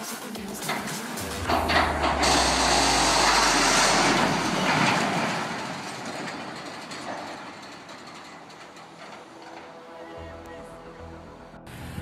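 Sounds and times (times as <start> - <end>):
crane collapsing with metal clatter: 0.7 - 10.3.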